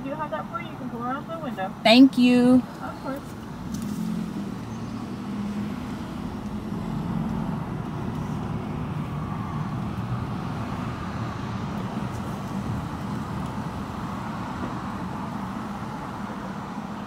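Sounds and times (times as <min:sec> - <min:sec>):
car engine and tyre hum: 0:00.0 - 0:17.0.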